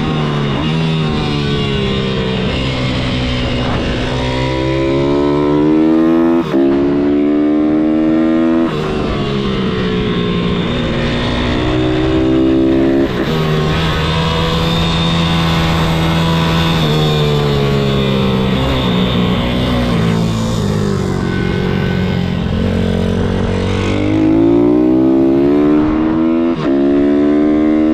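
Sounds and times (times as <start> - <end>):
motorbike engine revving: 0.0 - 27.9.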